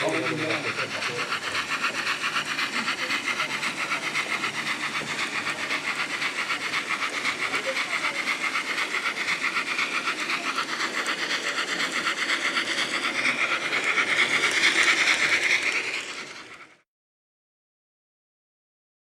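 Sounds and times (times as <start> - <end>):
model train running: 0.0 - 16.8.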